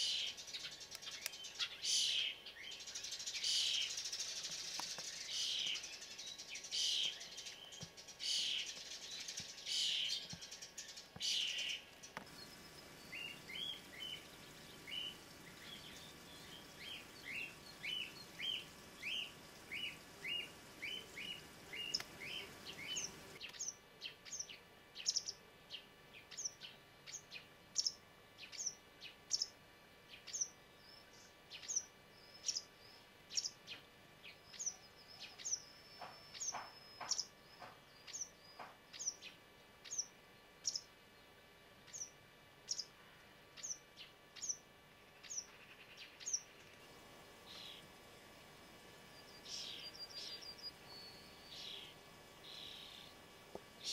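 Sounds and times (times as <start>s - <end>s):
small birds calling: 0.0s - 53.9s.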